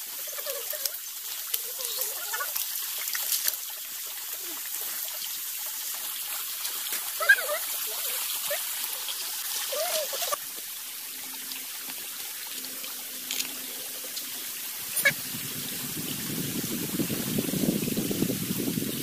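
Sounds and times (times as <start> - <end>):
stream water trickling: 0.0 - 19.0.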